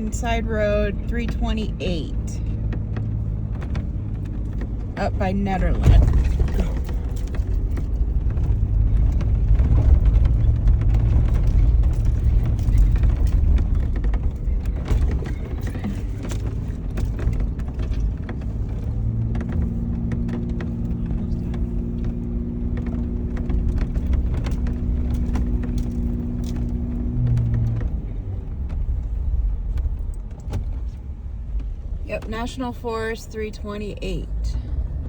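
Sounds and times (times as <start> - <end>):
off-road vehicle engine and tyre rumble: 0.0 - 35.0
knocks and rattles over rocks: 2.4 - 32.6.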